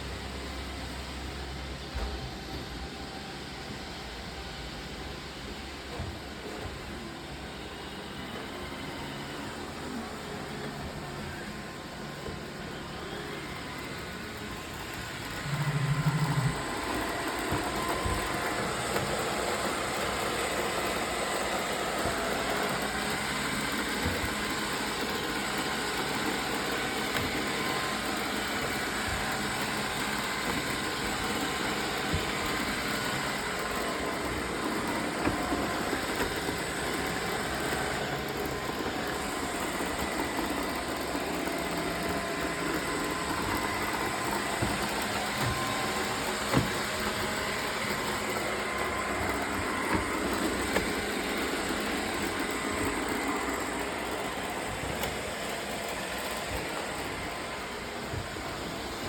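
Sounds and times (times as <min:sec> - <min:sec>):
robot vacuum motor and brush whir: 0:00.0 - 0:59.0.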